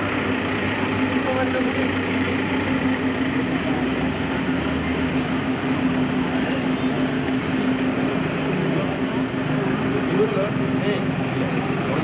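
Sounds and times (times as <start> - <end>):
murmur of street crowd: 0.0 - 12.0.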